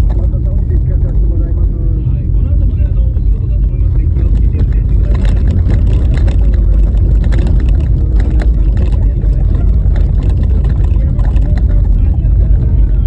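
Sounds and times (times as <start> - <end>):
knocks and rattles from car: 0.0 - 13.0
tyres rumbling on bumpy road: 0.0 - 13.0.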